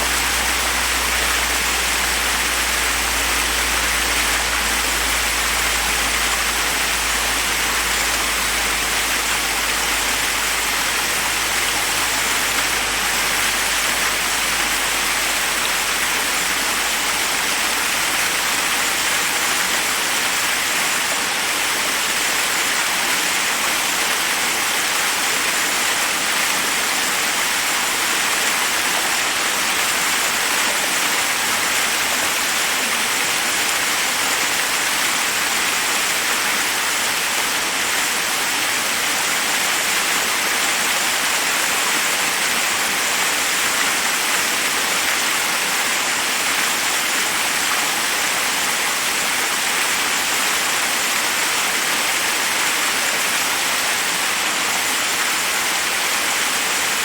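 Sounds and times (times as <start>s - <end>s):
waterfall cascading over rocks: 0.0s - 57.0s.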